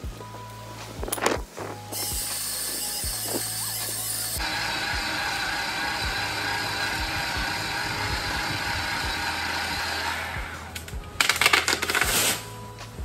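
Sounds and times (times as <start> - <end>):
battery chainsaw whining: 1.9 - 12.6.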